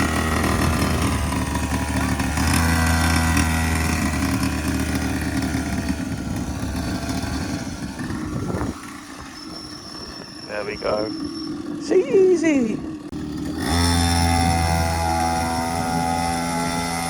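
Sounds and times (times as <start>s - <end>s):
small petrol engine running: 0.0s - 17.0s.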